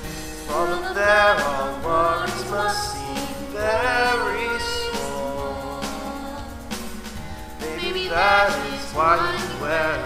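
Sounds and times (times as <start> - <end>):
held instrumental notes: 0.0 - 10.0
person singing: 0.4 - 6.9, 7.5 - 10.0.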